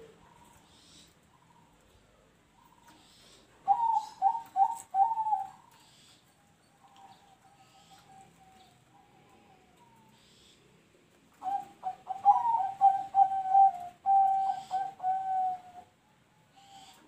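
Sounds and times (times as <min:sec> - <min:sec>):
dove cooing: 0:00.0 - 0:05.8, 0:06.9 - 0:10.3, 0:11.3 - 0:17.0.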